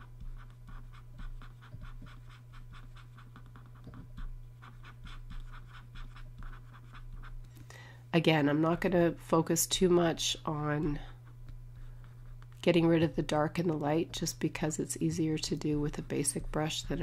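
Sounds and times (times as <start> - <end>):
stylus scratching graphics tablet: 0.0 - 7.5, 9.8 - 17.0
steady low hum: 0.0 - 17.0.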